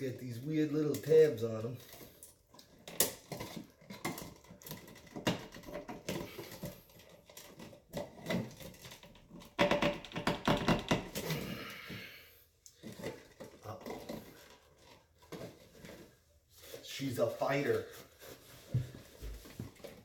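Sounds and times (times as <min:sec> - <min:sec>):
electrical cable clicking and scraping: 0:00.0 - 0:17.7.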